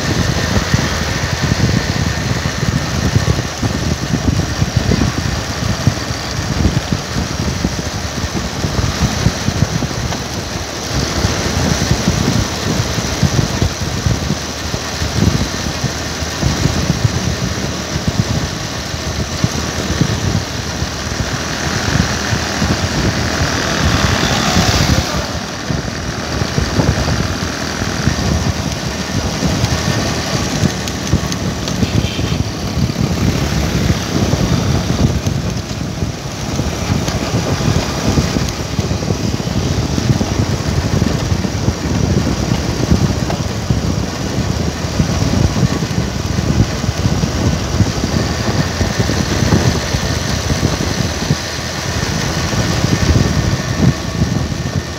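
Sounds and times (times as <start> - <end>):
vehicle engine and road noise: 0.0 - 54.9.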